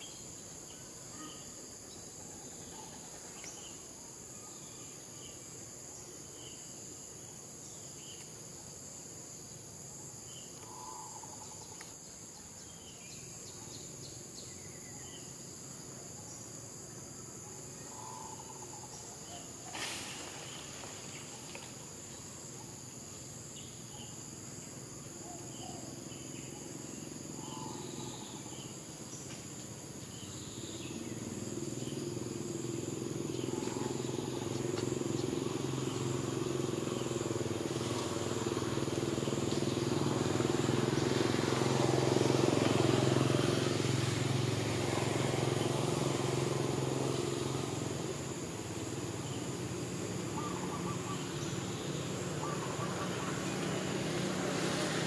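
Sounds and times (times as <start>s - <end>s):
insect chorus buzzing: 0.0s - 55.0s
short insect chirps: 0.0s - 55.0s.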